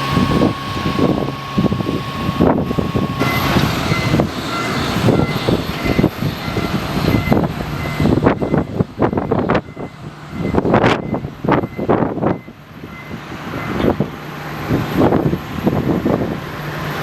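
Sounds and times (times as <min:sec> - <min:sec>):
low engine hum: 0:00.0 - 0:17.0
wind buffeting microphone: 0:00.0 - 0:17.0.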